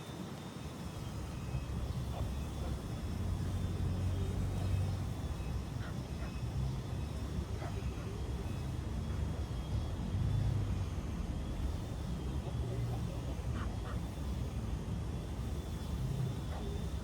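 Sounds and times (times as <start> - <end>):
distant road traffic rumble: 0.7 - 17.0.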